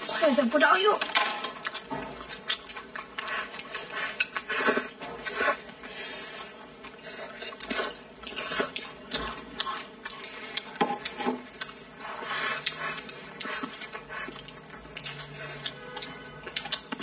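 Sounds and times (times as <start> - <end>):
wet chewing and slurping: 1.4 - 17.0.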